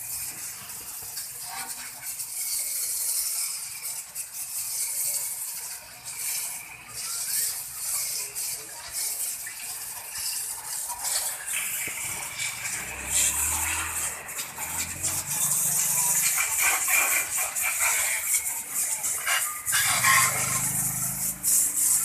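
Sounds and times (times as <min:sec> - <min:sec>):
water spray hissing: 0:00.0 - 0:22.0.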